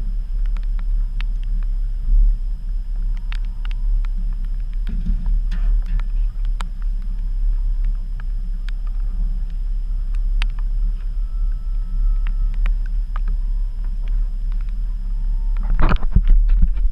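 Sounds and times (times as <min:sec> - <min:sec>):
outboard motor rumbling: 0:00.0 - 0:16.9
gear clicking and knocking: 0:03.0 - 0:16.9.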